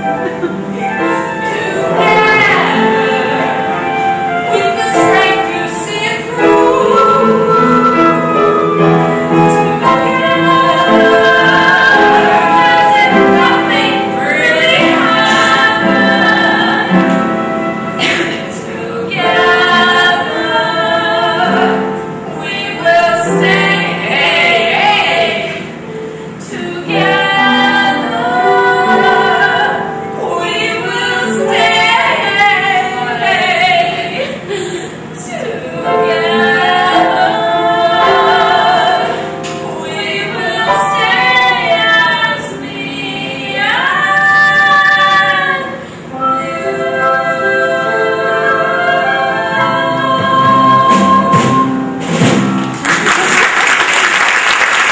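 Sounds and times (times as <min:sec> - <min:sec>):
voices singing in harmony: 0:00.0 - 0:52.1
held musical accompaniment: 0:00.0 - 0:54.9.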